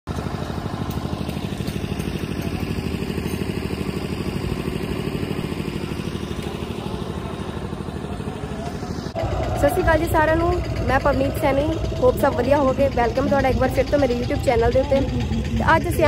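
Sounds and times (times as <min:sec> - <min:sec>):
engine idling: 0:00.1 - 0:16.0.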